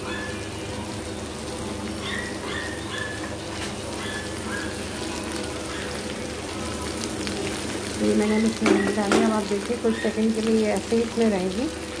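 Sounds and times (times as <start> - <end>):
okra crackling in hot oil: 0.0 - 12.0.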